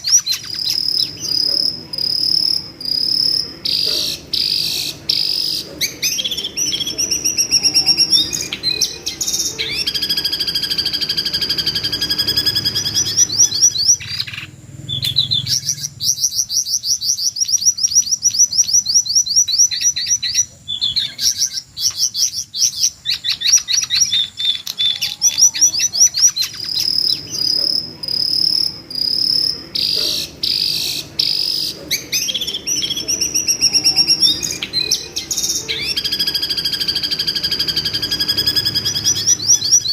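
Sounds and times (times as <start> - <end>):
bird high rapid trills: 0.0 - 20.2, 22.7 - 39.9.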